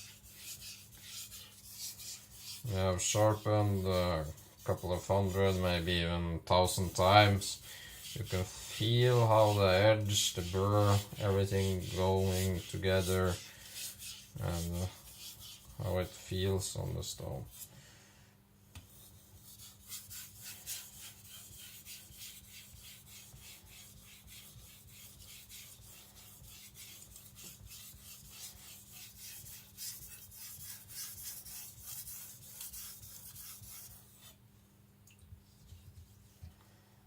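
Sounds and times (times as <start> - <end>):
knife scraping on whetstone: 0.0 - 5.4, 6.9 - 16.2, 18.9 - 34.4.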